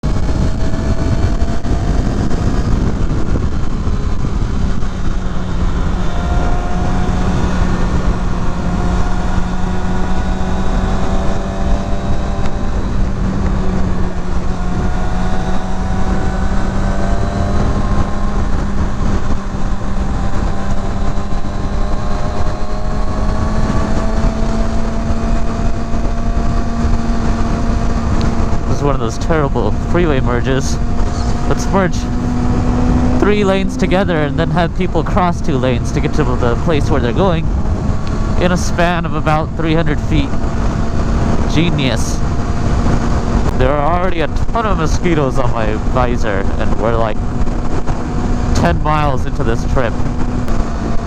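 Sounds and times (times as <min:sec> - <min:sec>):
motorcycle engine cruising: 0:00.0 - 0:51.0
wind rush: 0:00.0 - 0:51.0.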